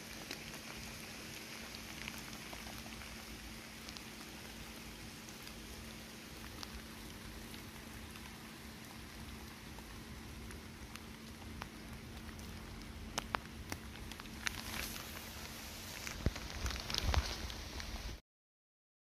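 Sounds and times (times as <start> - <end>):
steady outdoor hiss: 0.0 - 18.2.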